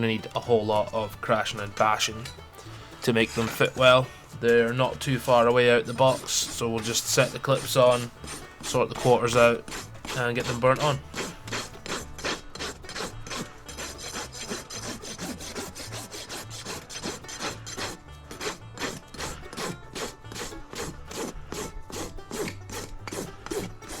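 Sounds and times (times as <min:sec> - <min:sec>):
rasp filing hoof: 0:00.0 - 0:24.0.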